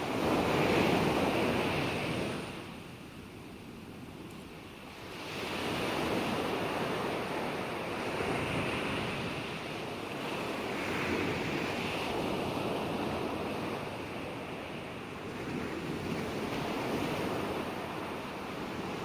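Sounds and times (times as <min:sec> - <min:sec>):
ocean waves breaking on shore: 0:00.0 - 0:19.0.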